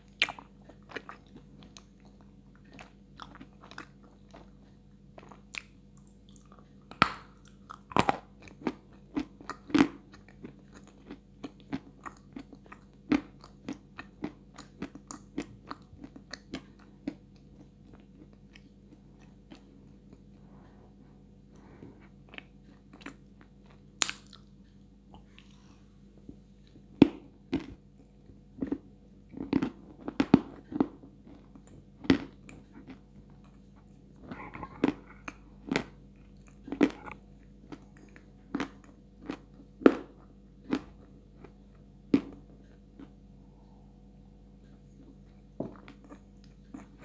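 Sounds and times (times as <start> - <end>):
crunching and chewing clay: 0.0 - 25.6, 26.3 - 43.2, 44.6 - 47.0.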